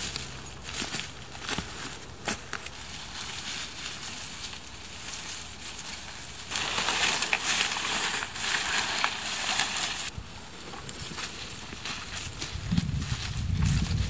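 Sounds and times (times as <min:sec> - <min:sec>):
brush rustling: 0:00.0 - 0:14.0
footsteps crunching dry leaves: 0:00.0 - 0:14.0
twigs crackling: 0:00.0 - 0:14.0.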